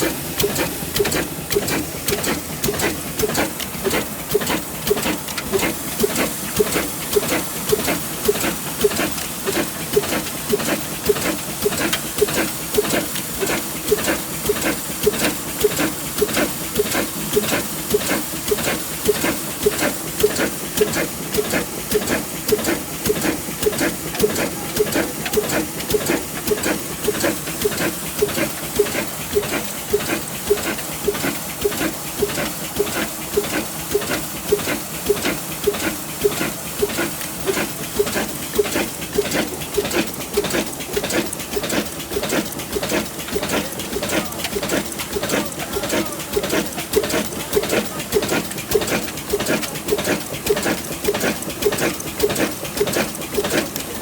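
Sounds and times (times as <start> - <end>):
old stationary engine chugging: 0.0 - 54.0.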